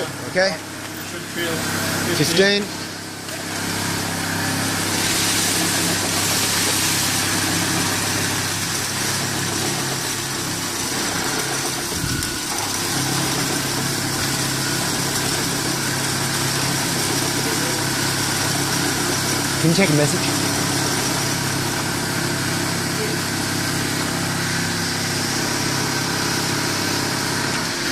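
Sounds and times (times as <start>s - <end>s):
conveyor motor hum: 0.0s - 27.9s.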